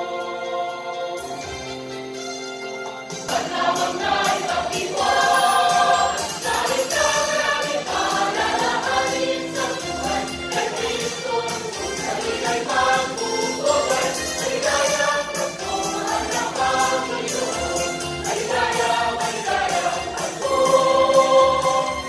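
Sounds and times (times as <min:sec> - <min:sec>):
choir singing a carol: 0:00.0 - 0:01.4, 0:03.3 - 0:22.0
instrumental accompaniment: 0:00.0 - 0:22.0.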